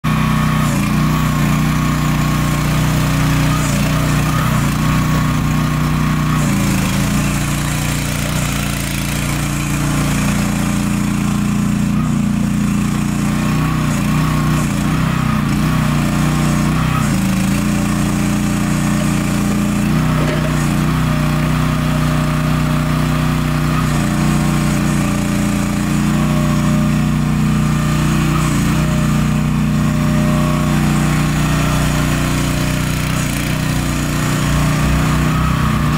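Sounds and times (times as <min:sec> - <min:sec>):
mini excavator engine running: 0:00.1 - 0:35.9.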